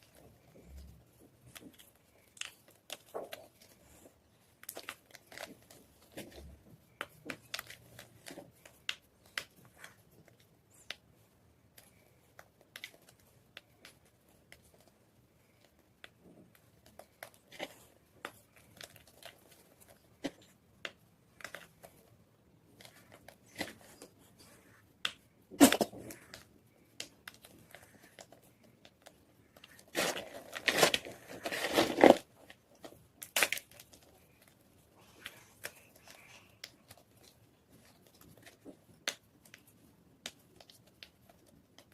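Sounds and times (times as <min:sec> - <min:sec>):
chalk crackling and snapping: 0:00.0 - 0:41.9.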